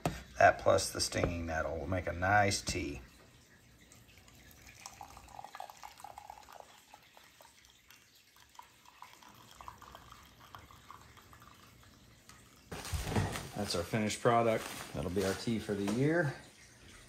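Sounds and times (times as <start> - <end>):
liquid trickling and dripping: 0.0 - 17.0.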